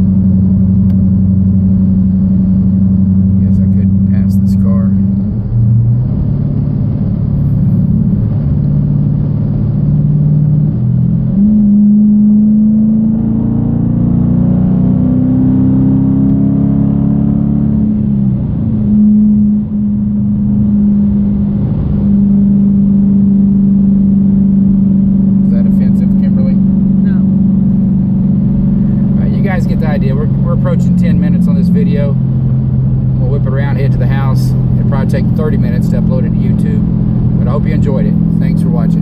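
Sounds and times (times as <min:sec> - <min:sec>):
vee eight exhaust from inside car: 0:00.0 - 0:14.3, 0:15.7 - 0:39.0.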